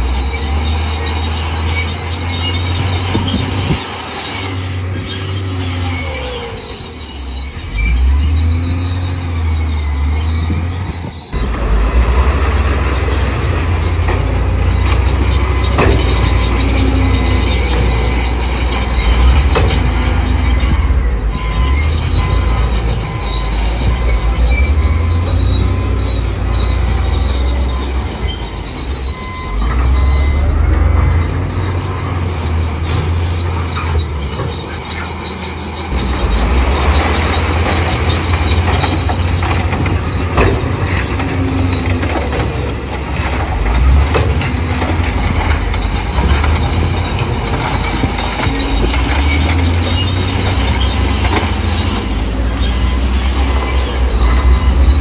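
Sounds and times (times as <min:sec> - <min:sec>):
faint gliding squeals: 0:00.0 - 0:11.4, 0:13.0 - 0:55.0
diesel machinery engines: 0:00.0 - 0:55.0.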